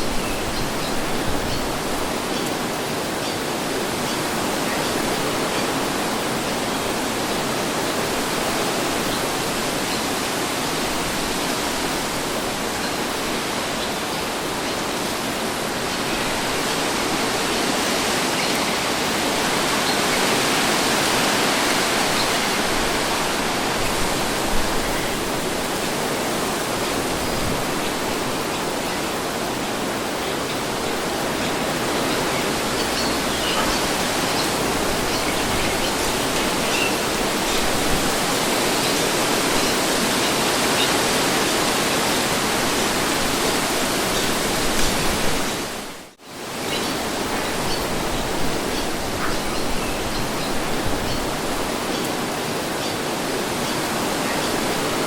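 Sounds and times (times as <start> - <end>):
steady wind: 0.0 - 55.0.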